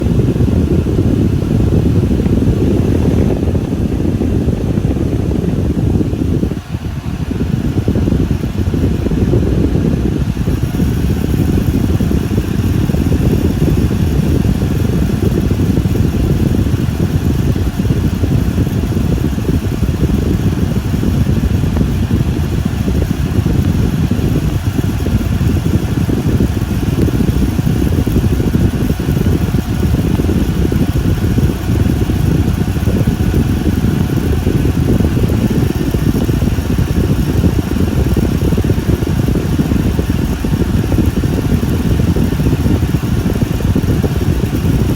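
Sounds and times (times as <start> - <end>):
blower fan rushing: 0.0 - 44.9.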